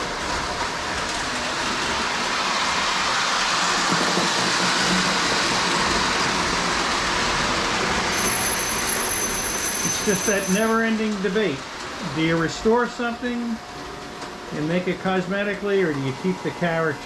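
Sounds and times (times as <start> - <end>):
toy train running on track: 0.0 - 17.0.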